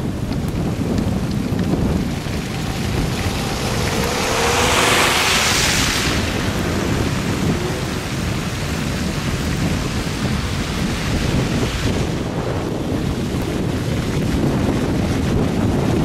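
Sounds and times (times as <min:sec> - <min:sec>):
tyres rumbling on slushy road: 0:00.0 - 0:16.0.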